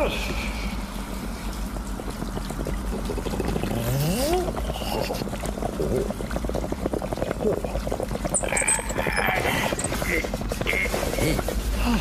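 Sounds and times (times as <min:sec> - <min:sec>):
water heater crackling rumble: 0:00.0 - 0:12.0.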